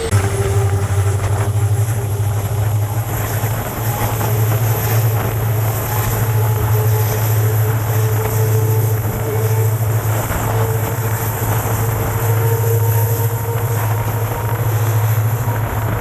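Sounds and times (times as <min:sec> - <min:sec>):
diesel engine humming: 0:00.0 - 0:16.0
train running noise: 0:00.0 - 0:16.0.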